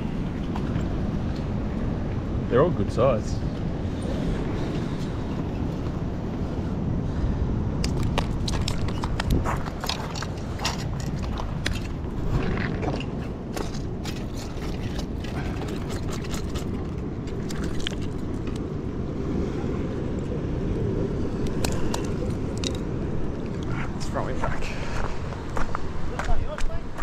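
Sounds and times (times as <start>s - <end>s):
wind and surf rumble: 0.0s - 27.0s.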